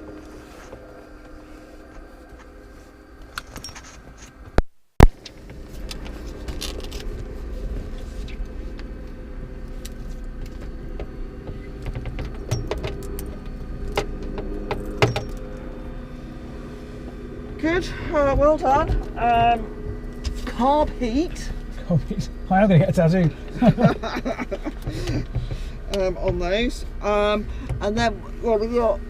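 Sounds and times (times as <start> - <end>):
helicopter engine rumbling: 0.0 - 4.6, 5.2 - 29.0.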